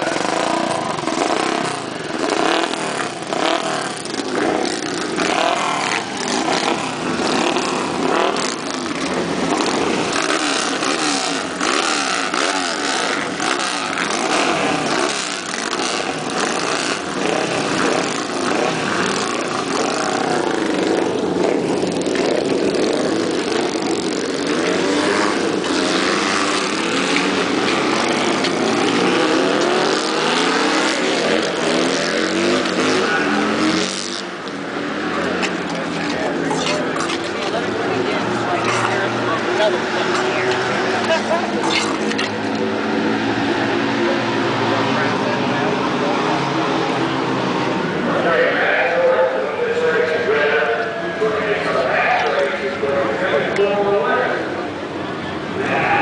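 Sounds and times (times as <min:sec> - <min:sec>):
motorcycle engines revving: 0:00.0 - 0:56.0
motorcycles accelerating away: 0:00.0 - 0:56.0.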